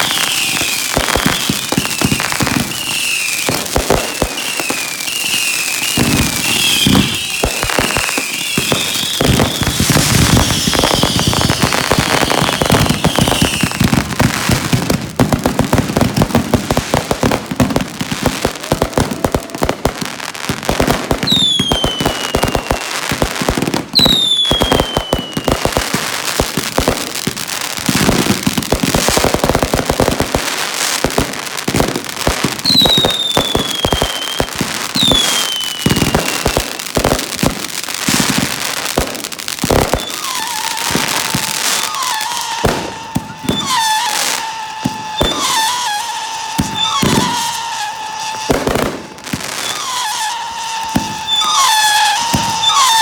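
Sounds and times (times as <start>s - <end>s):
falling firework whistles: 0.0s - 53.0s
fireworks crackling and popping: 0.0s - 53.0s.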